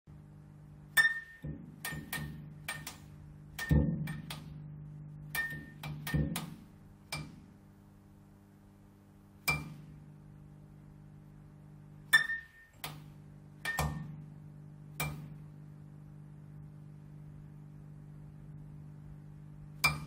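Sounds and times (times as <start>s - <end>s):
neon light electrical hum: 0.1s - 20.0s.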